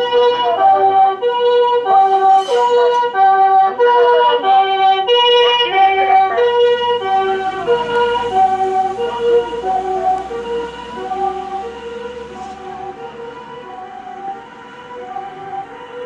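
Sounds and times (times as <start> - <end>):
low traffic rumble: 0.0 - 16.0
two-tone ambulance siren: 0.0 - 16.0.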